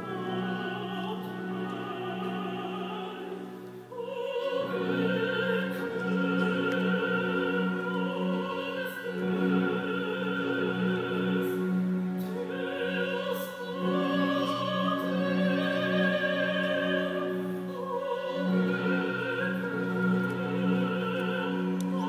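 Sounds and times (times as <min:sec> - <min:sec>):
orchestral accompaniment: 0:00.0 - 0:22.0.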